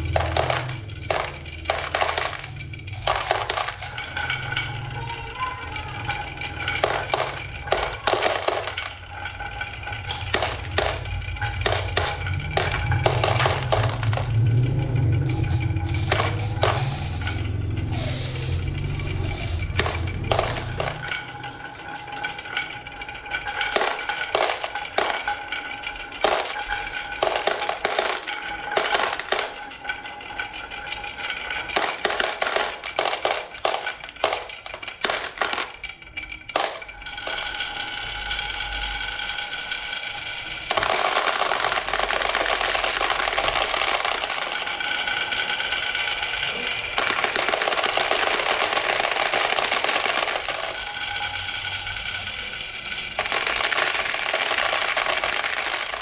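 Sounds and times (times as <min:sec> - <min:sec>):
marbles clacking down wooden track: 0:00.0 - 0:56.0.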